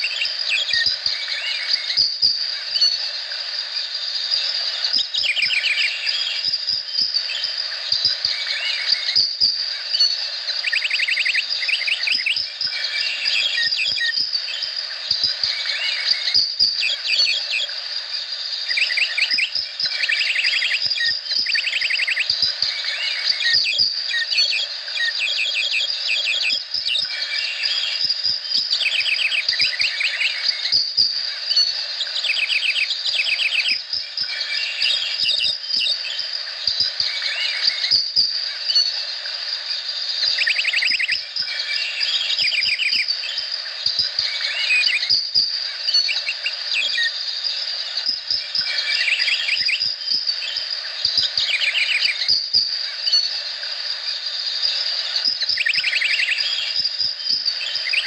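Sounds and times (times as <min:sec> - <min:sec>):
birds calling: 0:00.0 - 0:58.0
high insect drone: 0:00.0 - 0:58.0.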